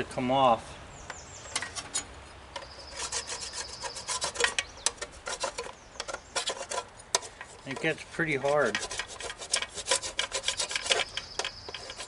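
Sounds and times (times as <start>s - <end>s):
hand tool scraping metal: 1.5s - 12.0s.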